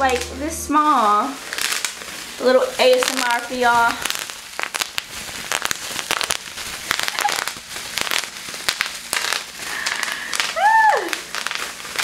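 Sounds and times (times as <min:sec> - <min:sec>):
bubble wrap popping: 0:00.0 - 0:12.0
plastic crinkling: 0:00.0 - 0:12.0.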